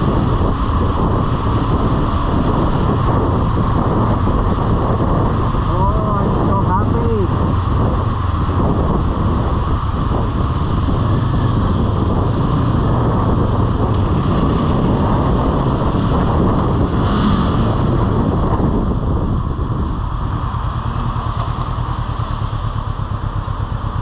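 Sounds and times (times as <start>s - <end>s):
motorcycle engine running: 0.0s - 24.0s
road noise: 0.0s - 24.0s
wind buffeting microphone: 0.0s - 24.0s.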